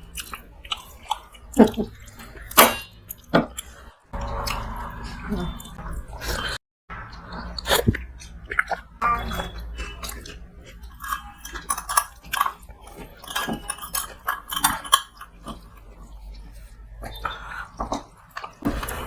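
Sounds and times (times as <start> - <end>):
chewing: 0.0 - 19.0.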